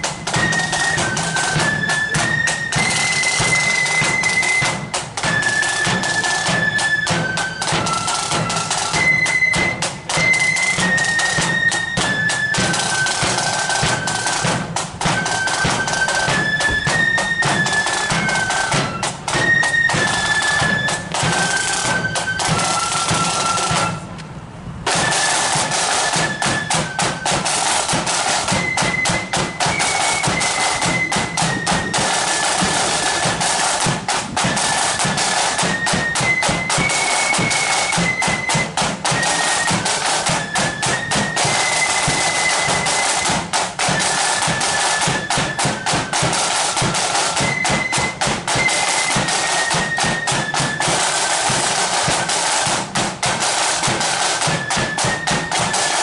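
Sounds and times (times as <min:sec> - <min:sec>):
rapid steady drumming: 0:00.0 - 0:24.1, 0:24.8 - 0:56.0
high flute melody: 0:00.0 - 0:24.2, 0:24.9 - 0:56.0.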